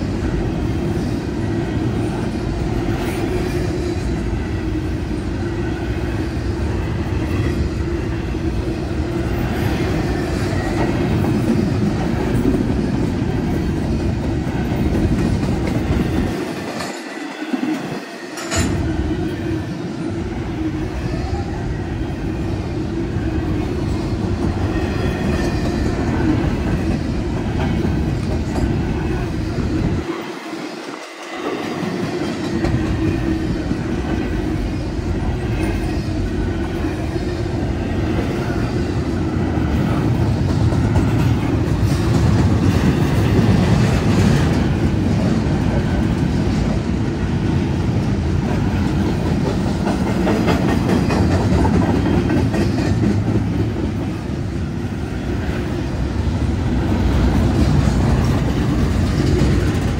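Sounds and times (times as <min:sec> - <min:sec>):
clickety-clack of wheels on rails: 0:00.0 - 0:59.9
freight train rolling past: 0:00.0 - 0:59.9.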